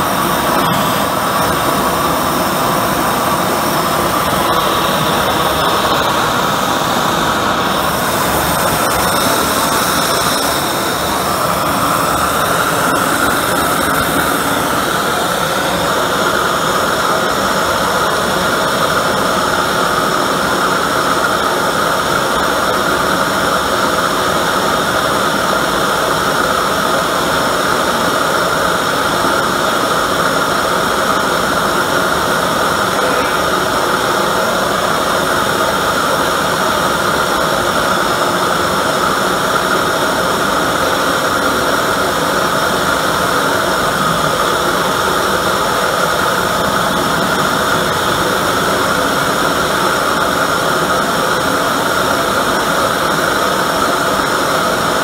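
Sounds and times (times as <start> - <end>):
forge burner roaring: 0.0 - 55.0.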